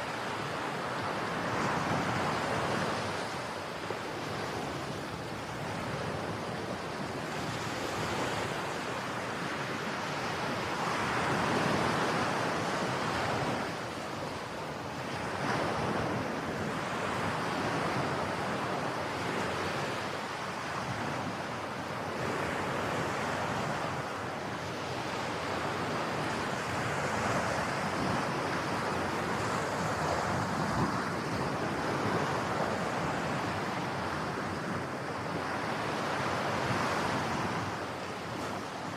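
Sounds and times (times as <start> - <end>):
ocean waves breaking on beach: 0.0 - 38.9
wind: 0.0 - 38.9.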